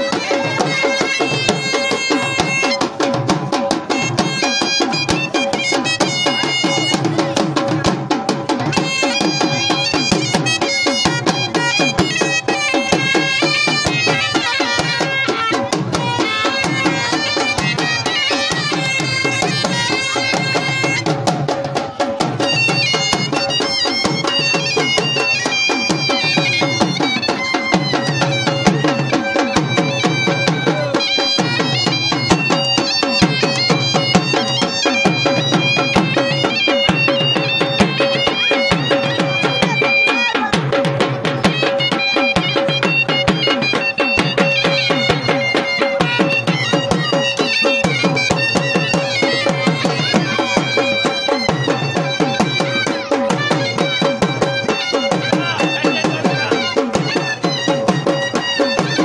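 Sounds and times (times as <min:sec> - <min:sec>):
drums beaten with sticks: 0:00.0 - 0:59.0
bagpipe melody over drone: 0:08.8 - 0:21.0, 0:22.4 - 0:40.6, 0:41.4 - 0:59.0.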